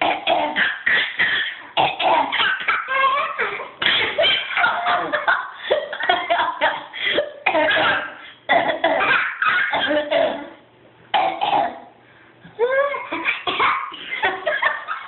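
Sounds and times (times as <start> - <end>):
people coughing: 0.0 - 10.5, 11.2 - 11.8, 13.1 - 15.0.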